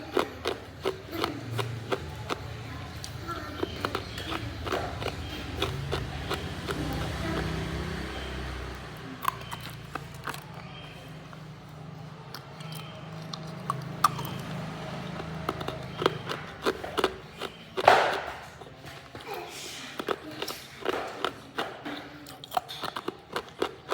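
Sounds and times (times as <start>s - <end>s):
ice being chewed: 0.0s - 23.9s.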